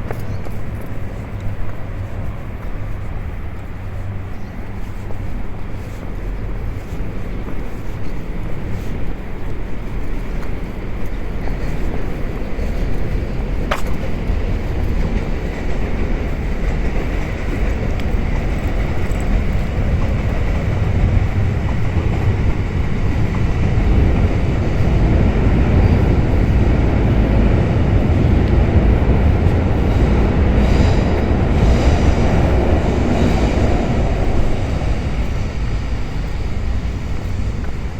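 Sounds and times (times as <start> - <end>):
train rumbling by: 0.0 - 37.9.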